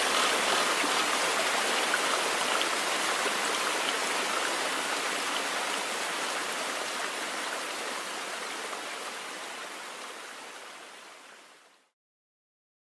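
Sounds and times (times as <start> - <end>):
stream water running: 0.0 - 11.8.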